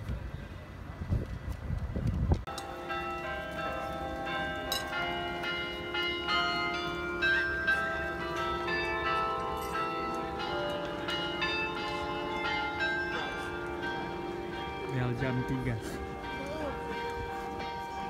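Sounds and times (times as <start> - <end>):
carillon bells playing a melody: 2.5 - 18.0.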